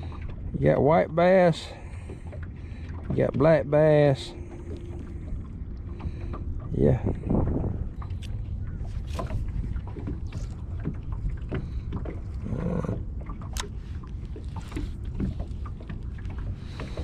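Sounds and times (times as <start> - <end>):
steady low rumble: 1.6 - 17.0.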